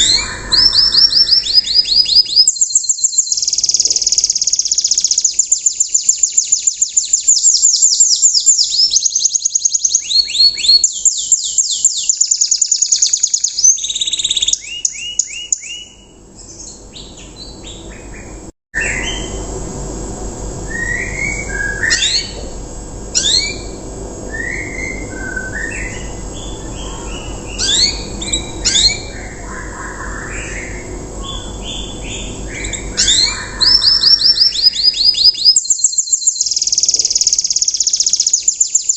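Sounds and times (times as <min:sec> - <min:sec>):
canary singing trills: 0:00.0 - 0:19.4, 0:20.7 - 0:23.8, 0:24.4 - 0:38.9
low background hum: 0:00.0 - 0:38.9.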